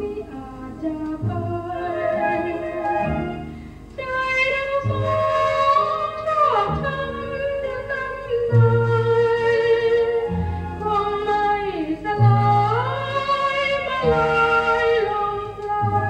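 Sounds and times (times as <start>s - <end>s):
woman singing slowly: 0.0s - 16.0s.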